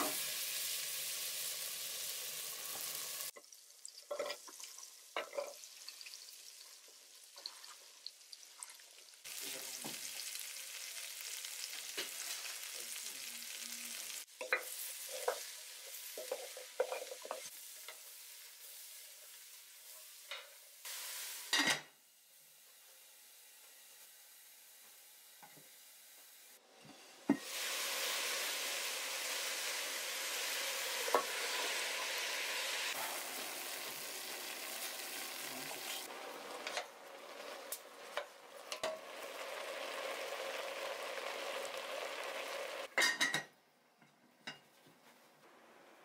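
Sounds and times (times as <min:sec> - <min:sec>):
vegetables sizzling in a saucepan: 0:00.0 - 0:43.4.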